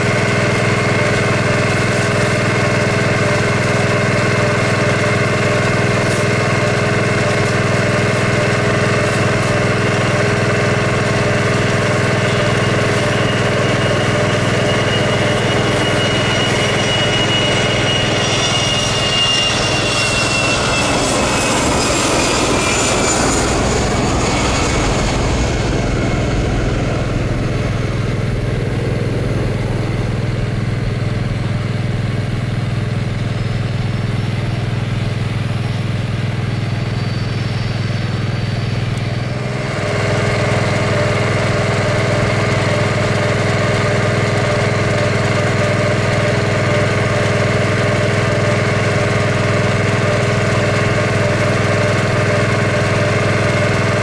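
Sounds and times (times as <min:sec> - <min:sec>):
engine drone at idle: 0:00.0 - 0:54.0
higher steady hum: 0:00.0 - 0:54.0
jet engine whine: 0:00.0 - 0:54.0.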